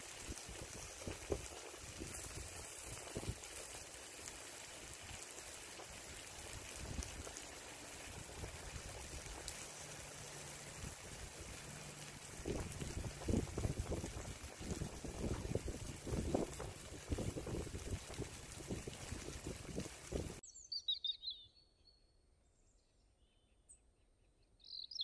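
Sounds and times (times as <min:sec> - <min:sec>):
food sizzling on a hotplate: 0:00.0 - 0:20.4.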